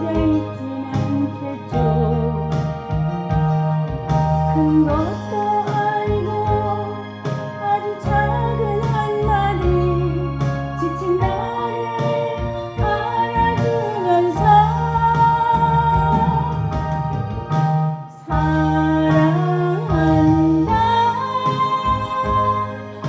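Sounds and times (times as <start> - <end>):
backing track of bass and chords: 0.0 - 23.0
person singing ballad: 0.0 - 23.0.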